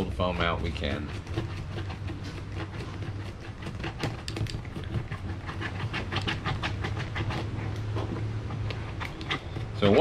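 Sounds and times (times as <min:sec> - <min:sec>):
screwdriver scraping foam: 0:00.0 - 0:10.0
steady low hum: 0:00.0 - 0:10.0.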